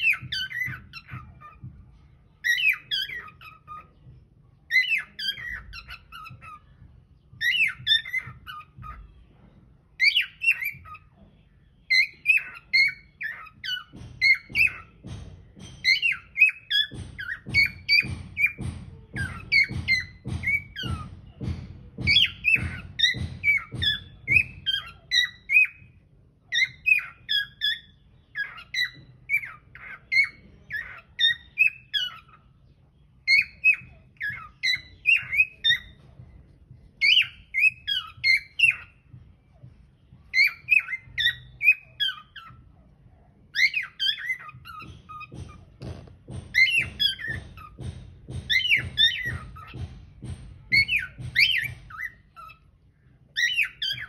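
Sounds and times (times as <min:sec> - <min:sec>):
cockatiels chirping and warbling: 0:00.0 - 0:54.0.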